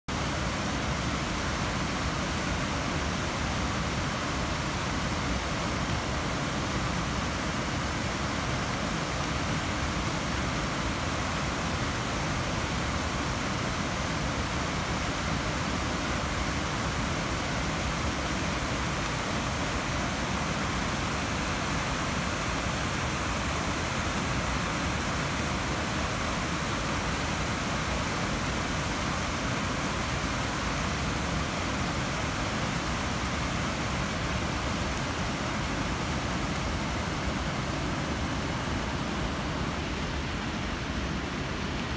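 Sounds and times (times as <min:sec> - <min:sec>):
river water flowing over rocks: 0:00.1 - 0:41.9.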